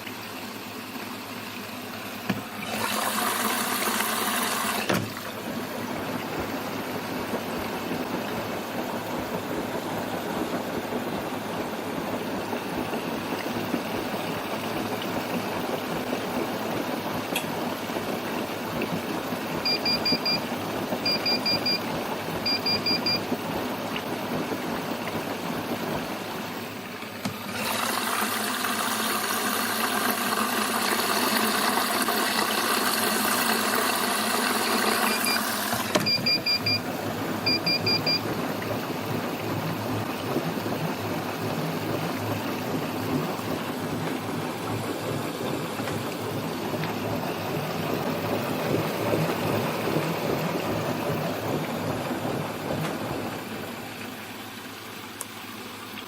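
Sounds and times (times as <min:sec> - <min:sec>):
washing machine water rushing: 0:00.0 - 0:56.0.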